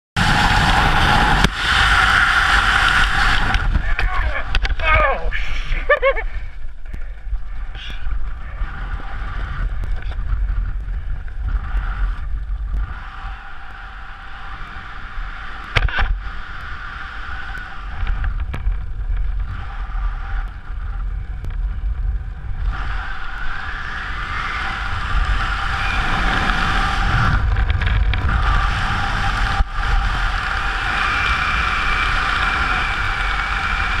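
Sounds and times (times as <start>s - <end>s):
wind rushing over microphone: 0.2s - 34.0s.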